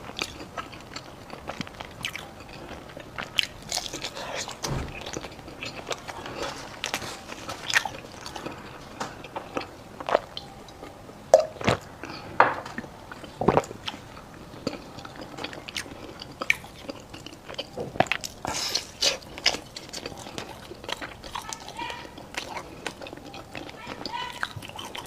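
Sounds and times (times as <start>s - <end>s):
wet sticky chewing: 0.0s - 25.0s.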